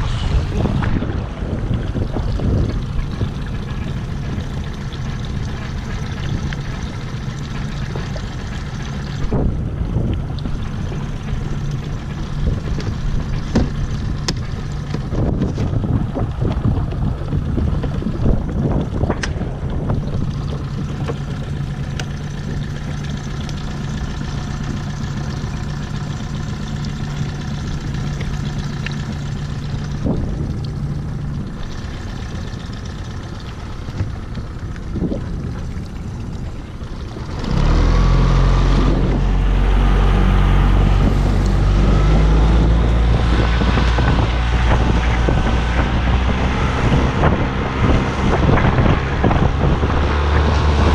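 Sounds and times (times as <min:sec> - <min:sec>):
outboard motor running: 0:00.0 - 0:50.9
wind and water rushing over hull: 0:00.0 - 0:50.9.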